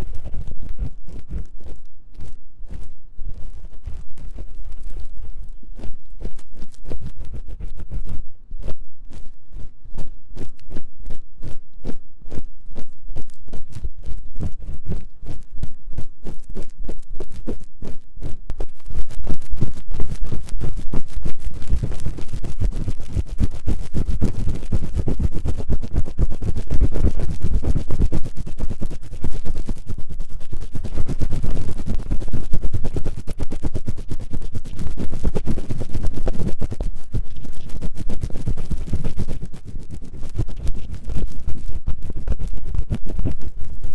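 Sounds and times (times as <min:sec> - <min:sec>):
ear-cleaning tool scratching microphone: 0:00.0 - 0:43.9.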